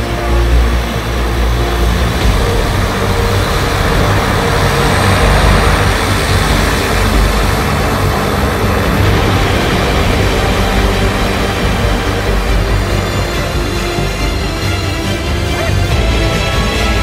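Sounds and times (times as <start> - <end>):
turboprop engine running: 0.0 - 17.0.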